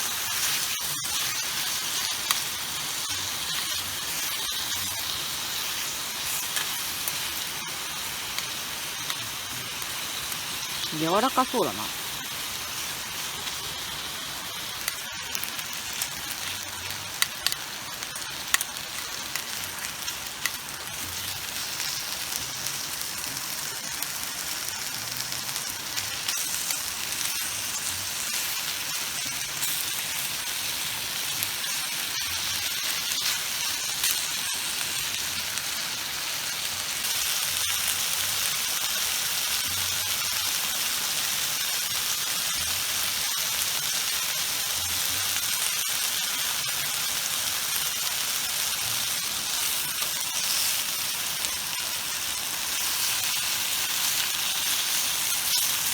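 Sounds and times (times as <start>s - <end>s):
meat sizzling: 0.0s - 55.9s.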